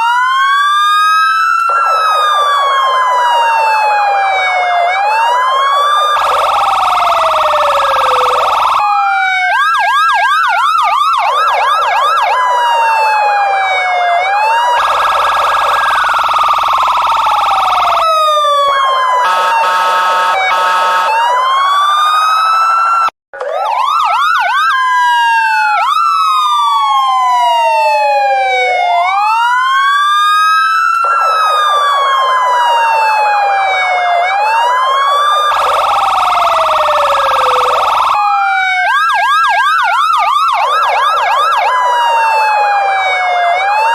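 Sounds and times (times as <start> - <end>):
electronic police siren: 0.0 - 43.9.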